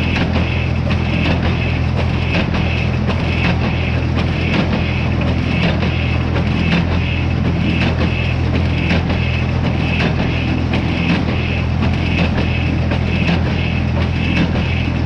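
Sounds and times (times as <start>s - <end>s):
low machine drone: 0.0s - 15.0s.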